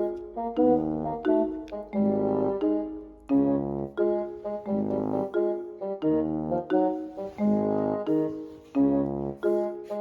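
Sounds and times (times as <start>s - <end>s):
piano and brass background music: 0.0s - 10.0s.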